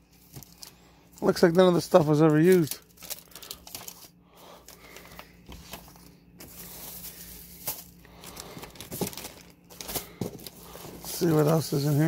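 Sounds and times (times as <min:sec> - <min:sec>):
plastic bags and paper rustling: 0:00.0 - 0:12.0.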